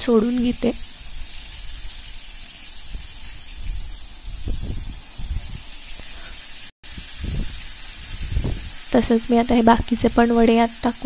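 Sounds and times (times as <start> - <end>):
oil sizzling while deep-frying: 0.0 - 11.0.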